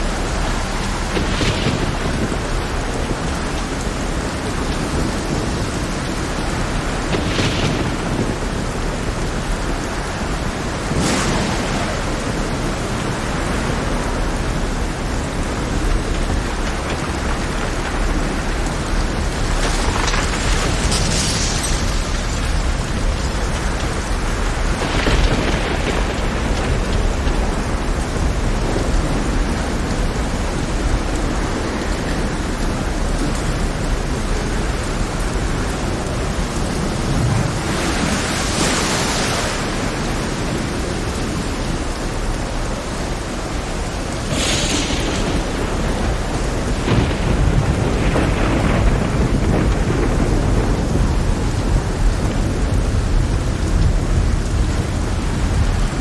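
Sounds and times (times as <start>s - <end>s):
heavy rain: 0.0s - 56.0s
low rumble of thunder: 0.0s - 56.0s.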